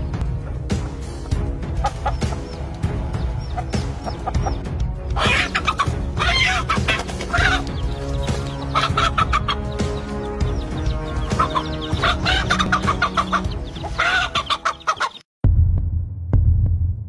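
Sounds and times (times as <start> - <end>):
background music with held notes: 0.0 - 15.2
hen clucking and squawking: 0.8 - 15.2.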